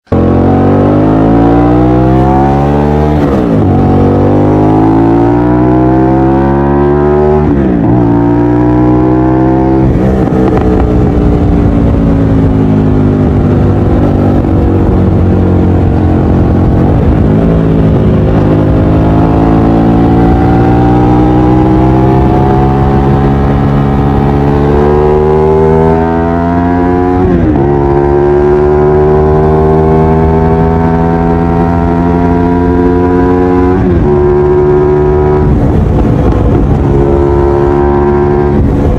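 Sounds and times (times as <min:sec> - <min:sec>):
motorcycle engine accelerating through gears: 0:00.0 - 0:38.9.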